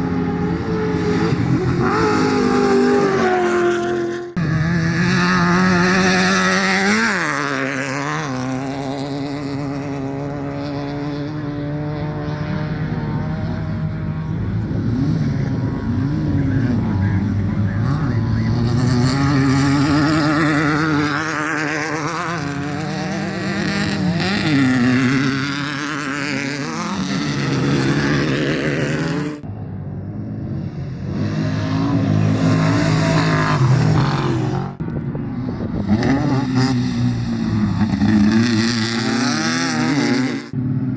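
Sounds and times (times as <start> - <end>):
race vehicle engine revving: 0.0 - 40.9.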